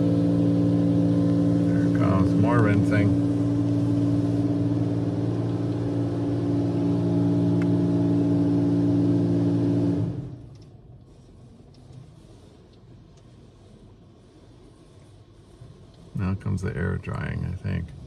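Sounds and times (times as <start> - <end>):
car wash machinery droning: 0.0 - 18.0.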